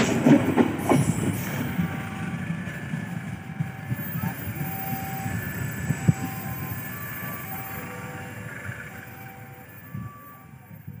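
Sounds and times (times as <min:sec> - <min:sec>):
train wheels rumbling on rails: 0:00.0 - 0:11.0
thin whining tones from wheels: 0:00.8 - 0:11.0.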